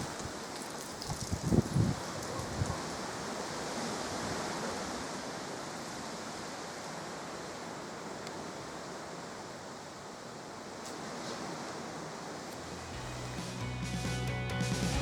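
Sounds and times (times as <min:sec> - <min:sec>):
steady wind: 0:00.0 - 0:14.1.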